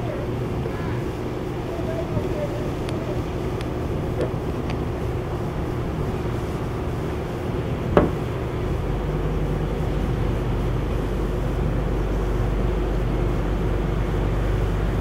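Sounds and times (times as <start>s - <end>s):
boat diesel engine drone: 0.0s - 15.0s
low rumble on microphone: 0.0s - 15.0s.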